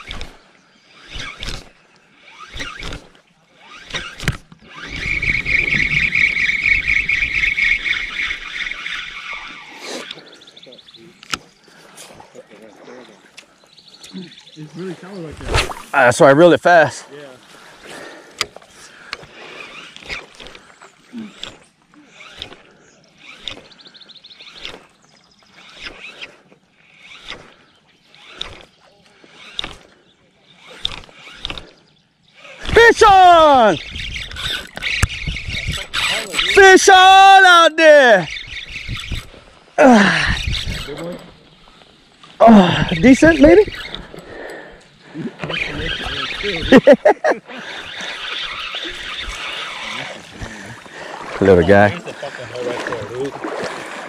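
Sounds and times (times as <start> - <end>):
fishing reel gear whir: 0.0 - 12.0, 17.6 - 54.0.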